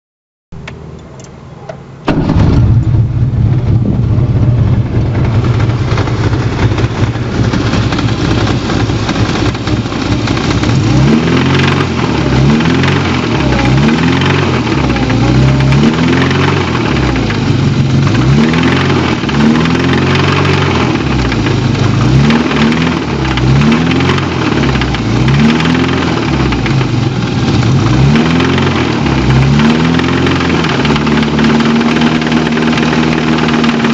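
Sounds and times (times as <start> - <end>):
car engine running: 0.6 - 33.9
rising engine pitch sweep: 2.1 - 33.4.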